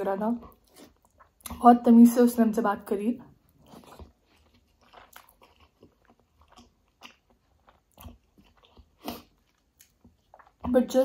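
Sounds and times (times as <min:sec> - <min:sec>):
mouth chewing food: 0:00.2 - 0:01.7, 0:03.3 - 0:11.0.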